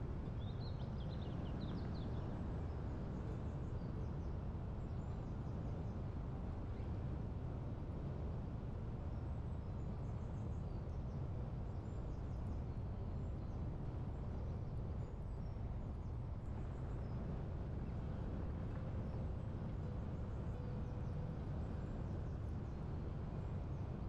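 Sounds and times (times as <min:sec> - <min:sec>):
low wind rumble: 0:00.0 - 0:24.0.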